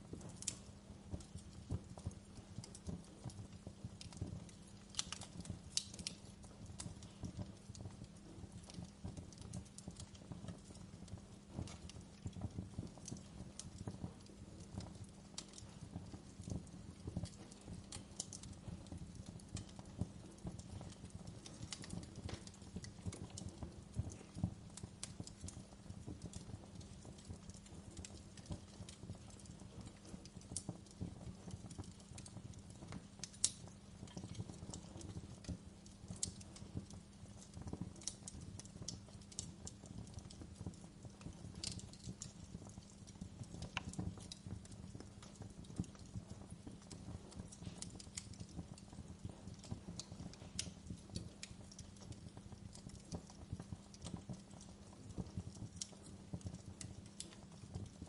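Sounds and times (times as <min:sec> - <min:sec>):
low rumble of burning fire: 0:00.0 - 0:58.0
wood fire crackling and popping: 0:00.0 - 0:58.0.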